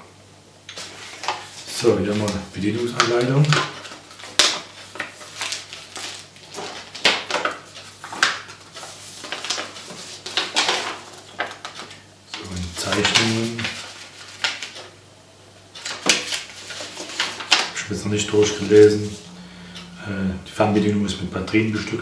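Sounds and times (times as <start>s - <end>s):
paper and plastic rustling: 0.7s - 15.0s, 15.7s - 19.3s.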